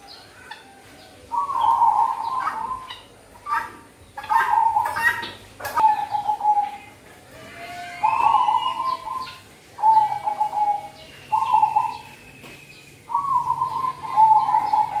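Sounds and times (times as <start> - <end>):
dove cooing: 0.0 - 6.9, 8.0 - 12.1, 13.1 - 15.0
small birds chirping: 0.0 - 7.0, 7.8 - 15.0.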